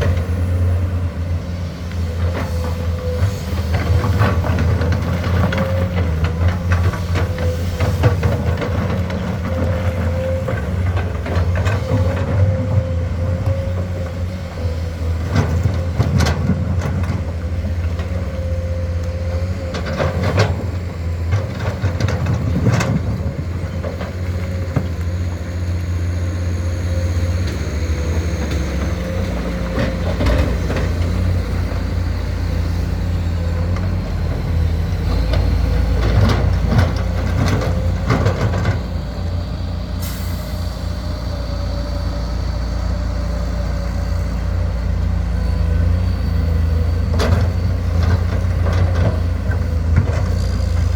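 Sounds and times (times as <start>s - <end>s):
excavator diesel engine running: 0.0s - 50.9s
heavy truck idling: 0.0s - 50.9s.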